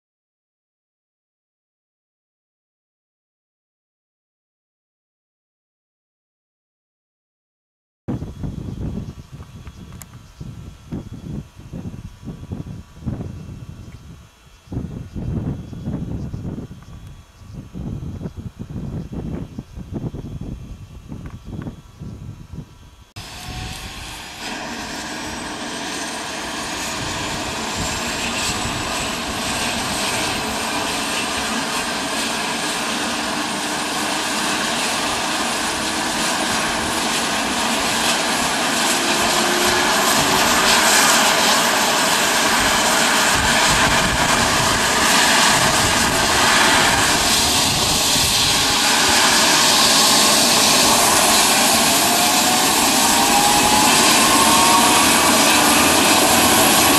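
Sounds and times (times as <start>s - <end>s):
helicopter engine whine: 8.1s - 56.9s
helicopter rotor: 8.2s - 56.9s.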